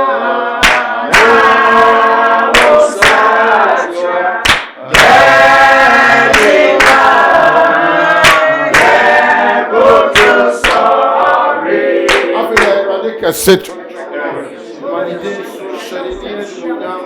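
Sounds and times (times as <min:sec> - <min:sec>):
group singing gospel song: 0:00.0 - 0:17.0.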